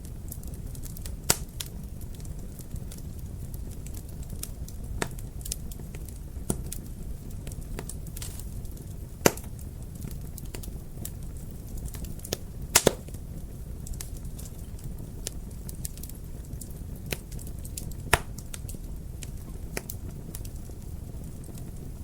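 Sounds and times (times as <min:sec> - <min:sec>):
fire pops and snaps: 0:00.0 - 0:22.0
flames rumbling: 0:00.0 - 0:22.0
wood fire crackling: 0:00.0 - 0:22.0.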